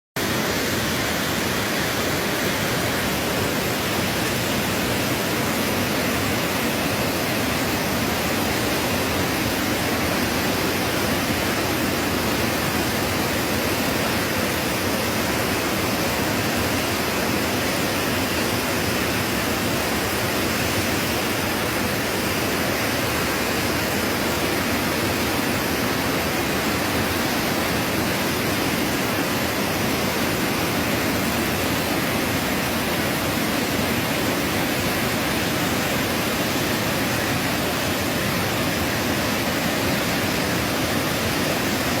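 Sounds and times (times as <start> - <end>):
floodwater rushing: 0.2 - 42.0.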